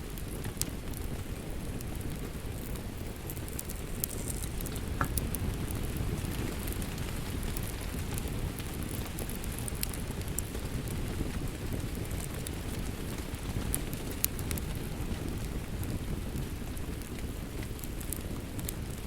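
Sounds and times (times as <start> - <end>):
fireplace crackling: 0.0 - 19.0
steady rain: 0.0 - 19.0.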